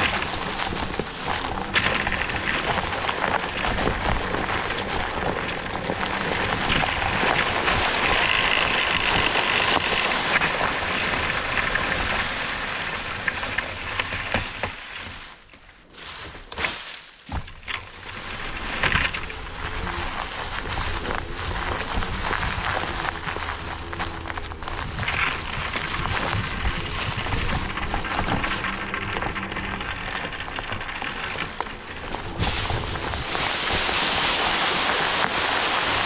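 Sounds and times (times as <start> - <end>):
tyres crunching over rough track: 0.0 - 36.0.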